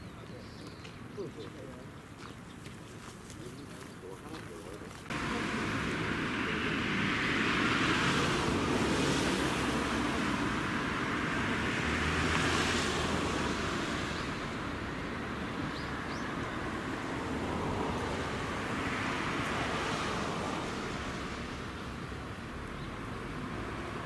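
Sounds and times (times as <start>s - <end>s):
road traffic passing: 3.5s - 24.0s.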